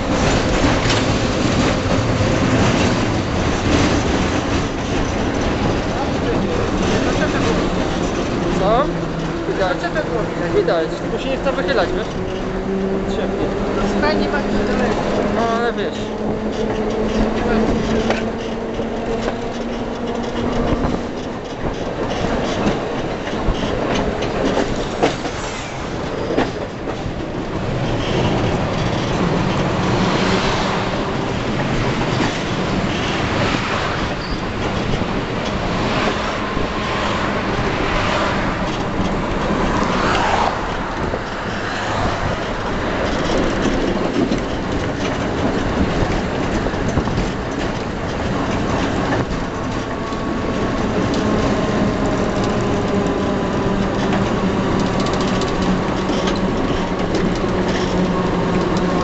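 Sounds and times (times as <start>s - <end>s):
rail joint clicks: 0.0s - 59.0s
tram wheels rumbling on rails: 0.0s - 59.0s.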